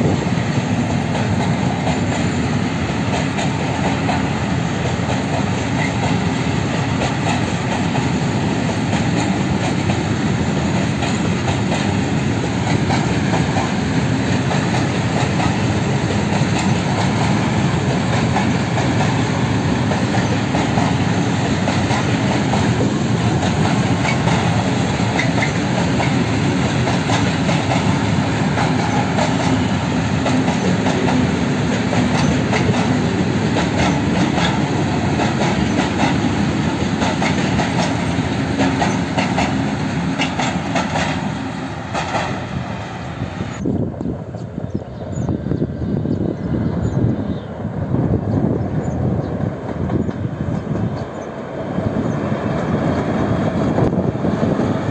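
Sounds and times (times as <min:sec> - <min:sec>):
freight train wheels clattering: 0:00.0 - 0:45.3, 0:48.2 - 0:54.9.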